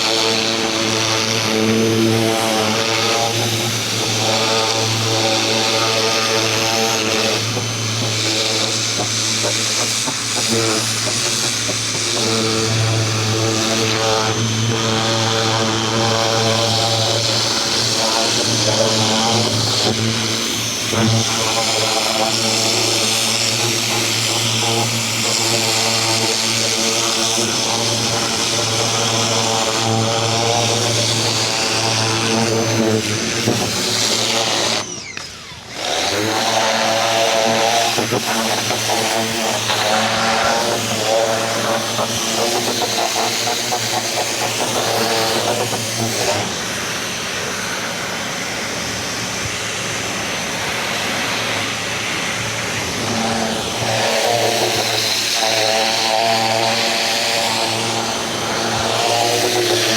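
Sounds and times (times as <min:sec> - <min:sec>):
electric pressure washer running: 0:00.0 - 0:59.9.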